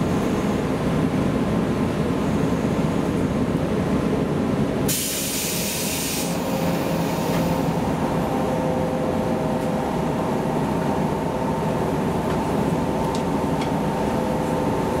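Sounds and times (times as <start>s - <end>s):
electric train equipment hum: 0.0s - 15.0s.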